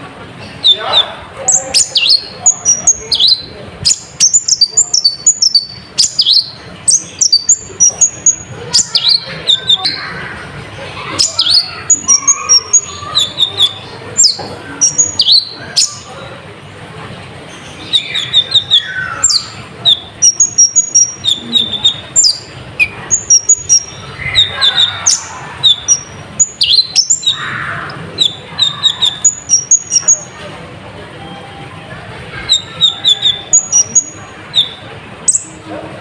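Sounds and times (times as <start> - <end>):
sunbird singing high chirps: 0.6 - 10.3, 11.0 - 16.2, 17.6 - 30.4, 32.4 - 35.6.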